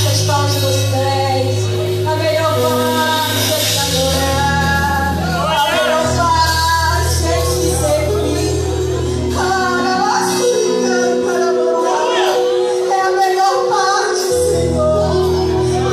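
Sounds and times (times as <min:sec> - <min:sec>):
band playing: 0:00.0 - 0:15.9
voices singing gospel: 0:00.0 - 0:15.9.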